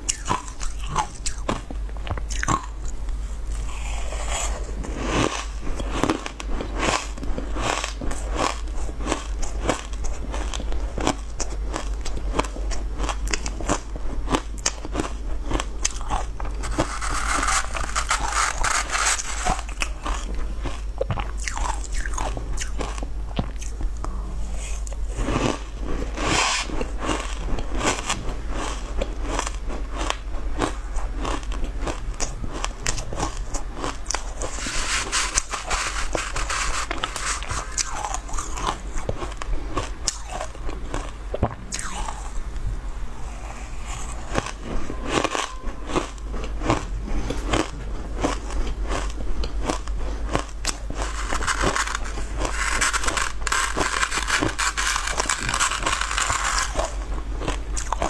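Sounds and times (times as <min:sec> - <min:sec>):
crunching and chewing shaved ice: 0:00.0 - 0:42.4, 0:43.2 - 0:58.0.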